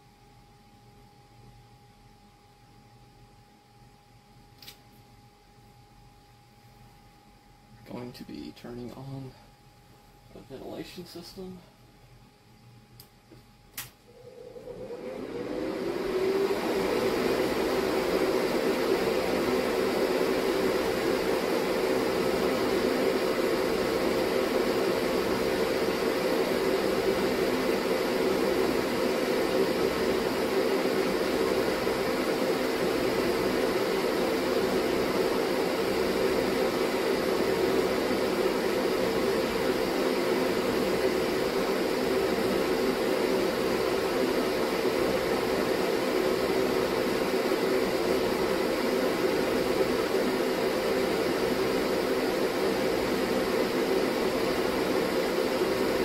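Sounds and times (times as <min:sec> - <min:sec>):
ventilation fan running: 0:00.0 - 0:56.0.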